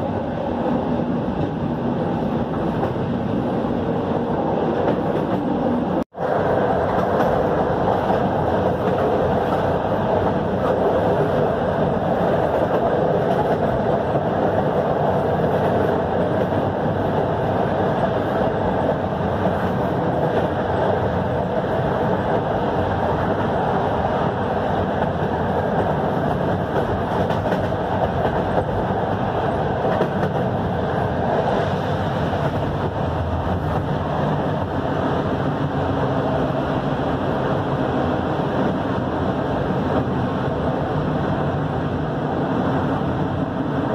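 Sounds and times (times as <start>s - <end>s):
train wheels rumbling: 0.0s - 43.9s.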